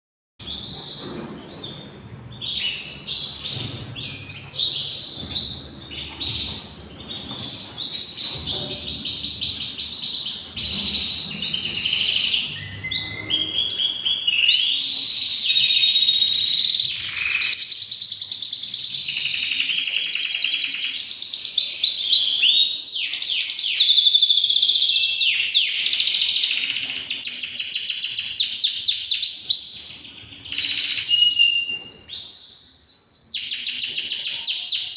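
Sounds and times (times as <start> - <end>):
canary singing trills: 0.4 - 34.9.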